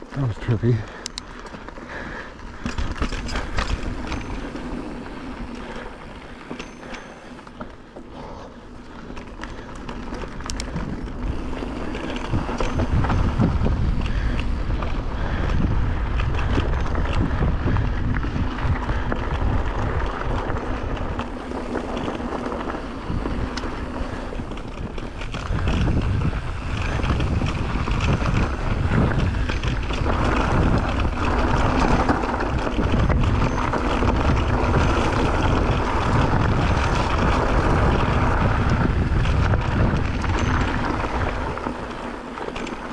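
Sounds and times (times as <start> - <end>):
tyres rolling over dirt: 0.0 - 42.9
wind buffeting microphone: 0.0 - 42.9.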